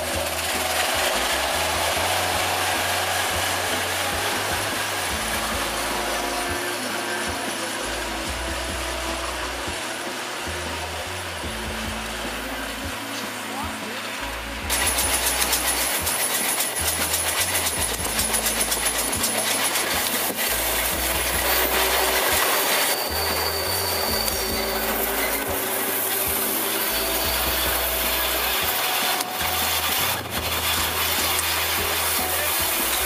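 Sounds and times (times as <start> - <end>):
steam locomotive hissing and rushing: 0.0 - 33.0.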